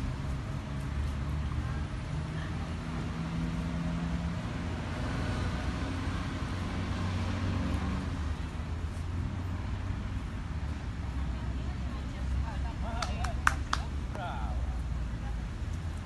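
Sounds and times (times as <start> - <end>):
road traffic: 0.0 - 16.0
vehicle engines humming: 0.0 - 16.0.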